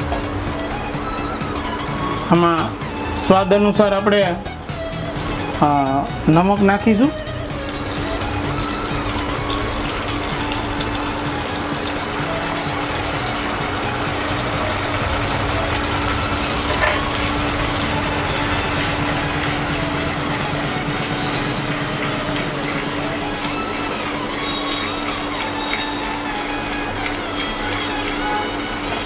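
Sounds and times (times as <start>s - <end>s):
gravy sizzling and bubbling: 0.0s - 29.0s.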